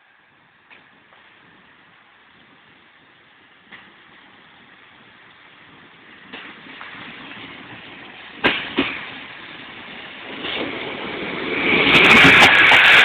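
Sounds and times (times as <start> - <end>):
diesel railcar approaching: 0.0 - 13.0.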